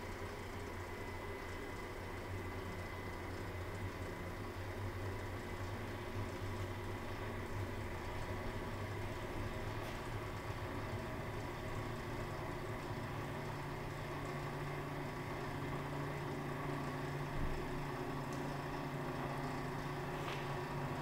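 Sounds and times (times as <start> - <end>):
dough mixer motor hum: 0.0 - 21.0.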